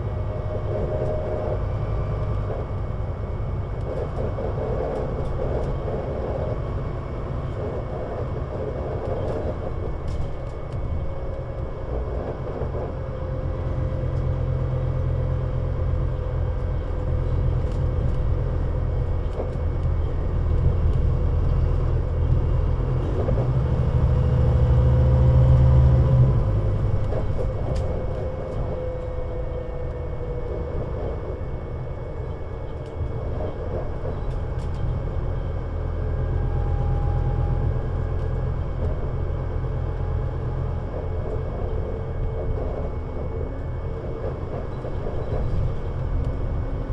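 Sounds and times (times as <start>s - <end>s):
bus engine rumbling: 0.0s - 46.9s.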